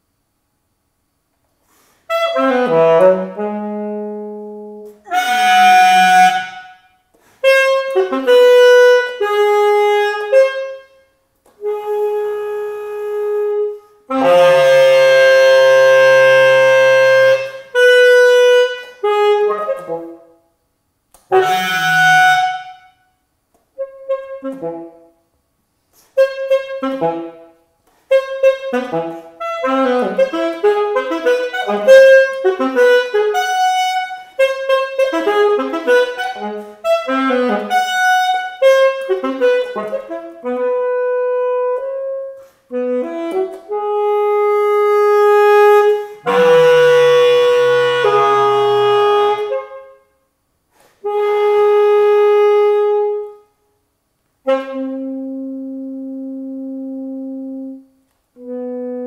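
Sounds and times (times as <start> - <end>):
solo saxophone: 1.0 - 59.0.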